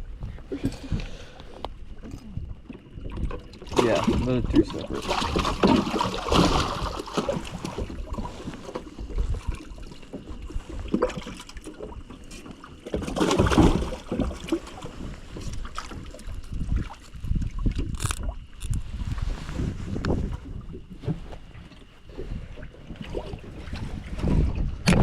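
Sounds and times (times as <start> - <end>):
wind buffeting microphone: 0.0 - 11.0, 13.4 - 25.0.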